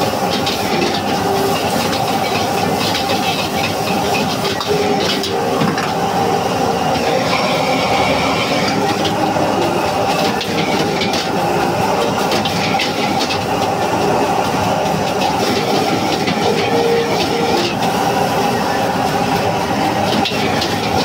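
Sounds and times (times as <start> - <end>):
fried rice sizzling: 0.0 - 21.0
gas burner roaring: 0.0 - 21.0.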